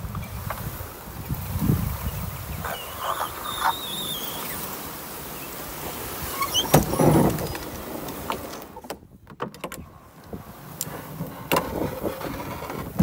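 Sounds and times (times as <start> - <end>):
canoe hull scraping over grass: 0.0 - 8.9, 9.9 - 13.0.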